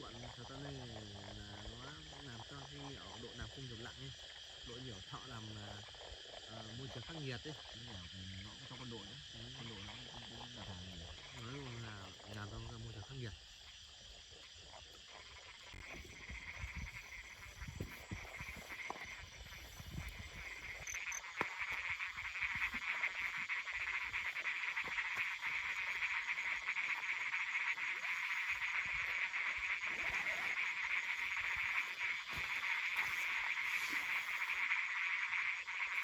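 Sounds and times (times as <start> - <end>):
frogs trilling: 0.0 - 36.0.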